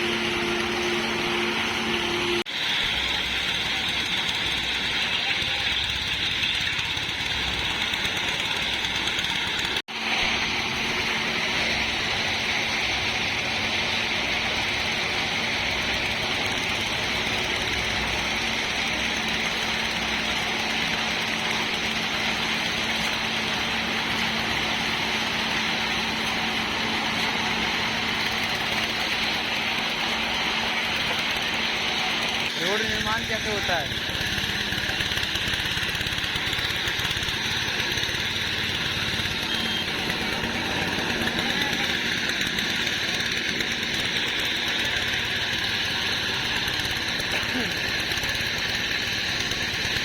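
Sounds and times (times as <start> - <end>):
construction machinery engine running: 0.0 - 50.0.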